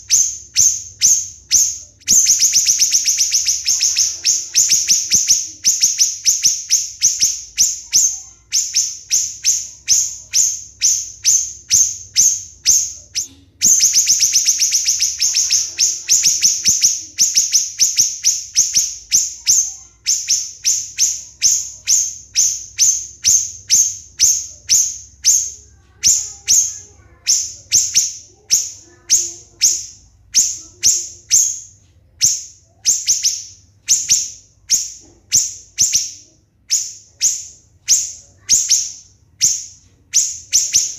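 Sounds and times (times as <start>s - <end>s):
bird singing shrill notes: 0.0s - 40.9s.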